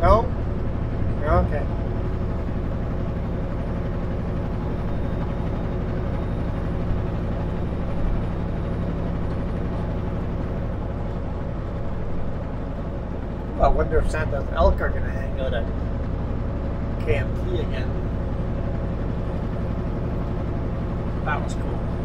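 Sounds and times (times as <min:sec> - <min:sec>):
truck diesel engine droning: 0:00.0 - 0:22.0.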